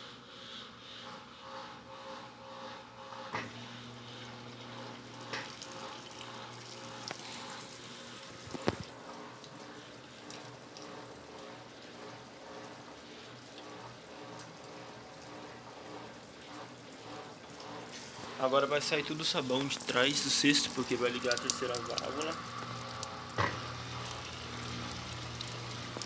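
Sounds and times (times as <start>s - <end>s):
water running into washing machine: 3.2s - 26.0s.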